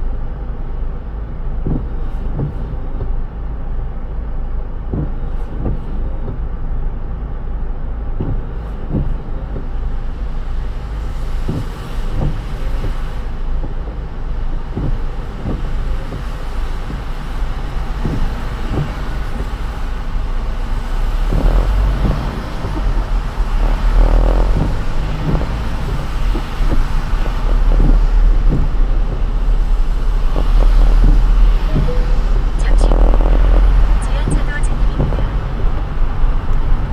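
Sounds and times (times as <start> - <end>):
car driving on wet road: 0.0 - 36.9.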